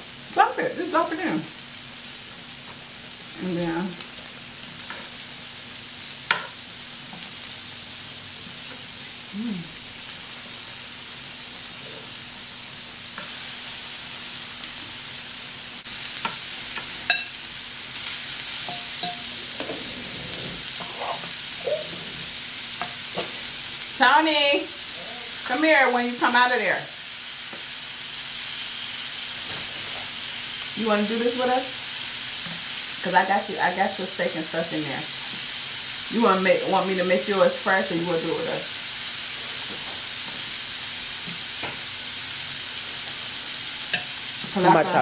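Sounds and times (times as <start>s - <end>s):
food sizzling on a grill plate: 0.0s - 45.0s.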